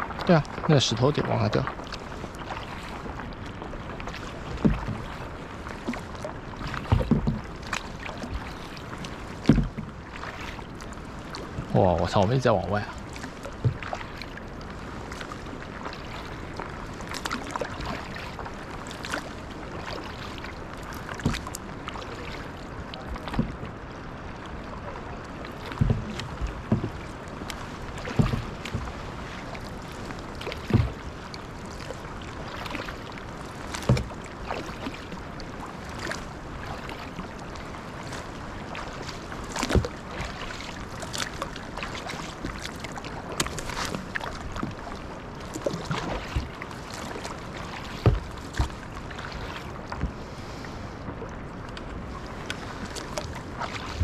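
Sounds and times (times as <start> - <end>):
water washing: 0.0 - 23.7, 25.4 - 50.2
paddle strokes splashing: 0.0 - 54.0
wind: 0.0 - 54.0.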